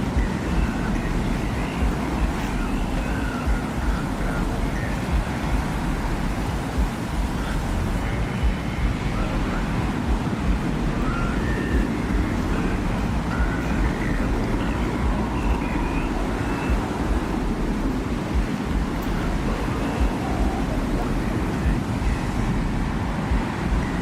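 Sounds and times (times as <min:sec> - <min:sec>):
low rumble of wind: 0:00.0 - 0:24.0.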